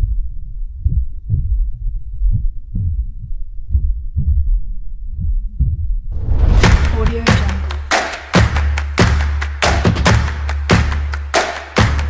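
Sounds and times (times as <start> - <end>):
heartbeat-style thumping: 0.0 - 11.2.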